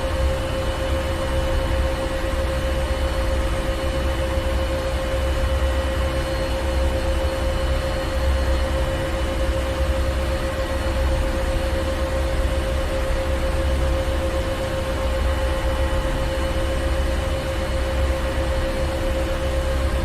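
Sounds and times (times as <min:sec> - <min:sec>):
engine room deep rumble: 0:00.0 - 0:20.0
mid-pitched machine hum: 0:00.0 - 0:20.0
thin steady whines: 0:00.0 - 0:20.0.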